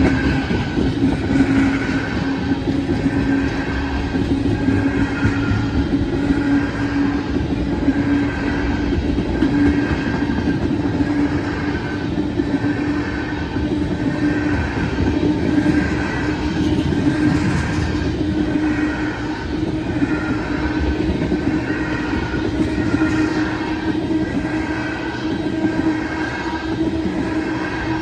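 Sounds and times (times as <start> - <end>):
freight train wheels rumbling: 0.0 - 28.0
train hum: 0.0 - 28.0.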